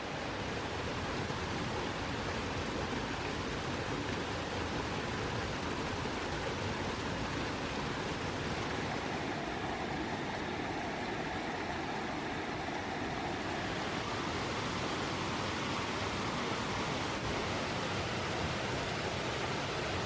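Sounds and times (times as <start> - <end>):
stream rushing over boulders: 0.0 - 20.0.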